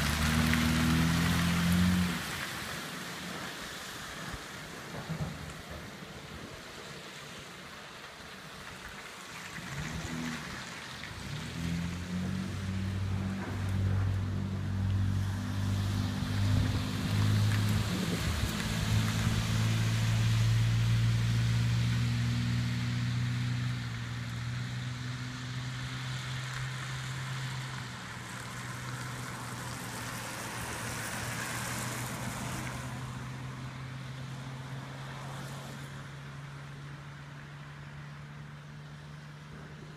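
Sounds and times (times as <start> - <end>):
vehicle engines humming: 0.0 - 4.0, 8.9 - 39.9
road and wind noise: 0.0 - 39.9.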